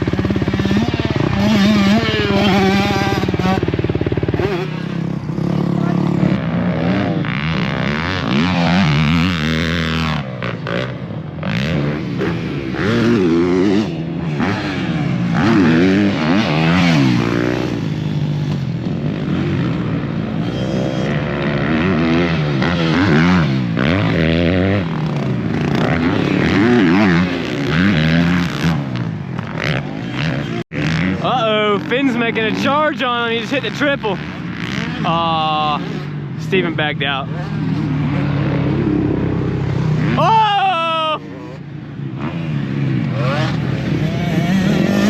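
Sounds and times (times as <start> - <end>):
dirt bike engines revving: 0.0 - 45.0.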